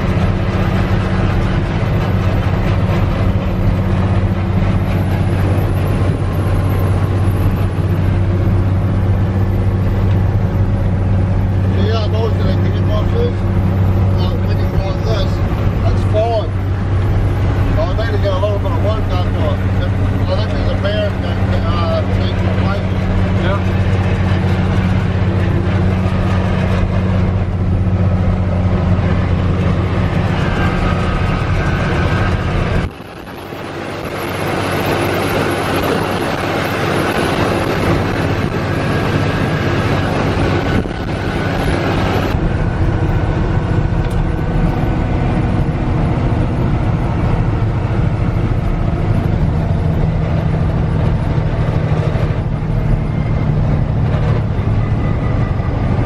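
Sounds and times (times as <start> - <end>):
diesel truck engine droning: 0.0 - 56.0
rushing wind and road noise: 0.0 - 56.0.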